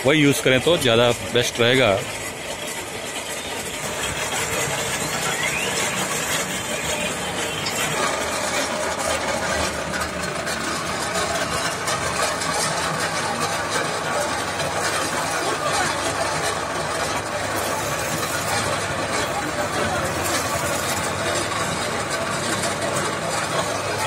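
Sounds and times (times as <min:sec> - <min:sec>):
cement mixer motor running: 0:00.0 - 0:24.0.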